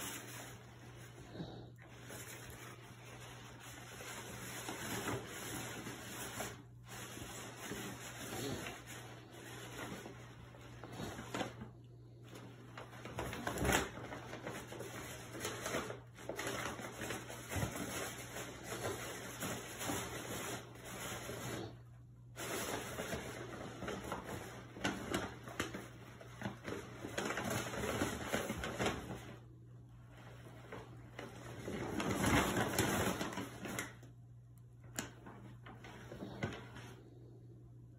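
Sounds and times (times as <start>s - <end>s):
paper bag rustling and crinkling: 0.0s - 34.2s, 35.0s - 37.4s.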